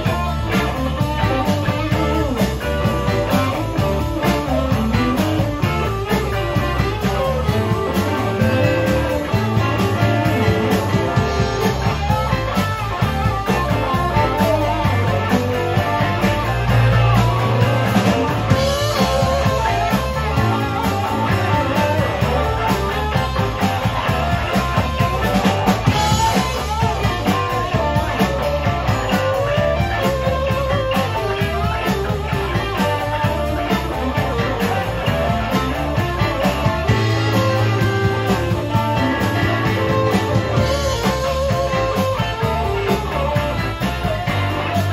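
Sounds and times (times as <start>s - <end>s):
drum kit beat: 0.0s - 44.9s
rock guitar lines: 0.0s - 44.9s.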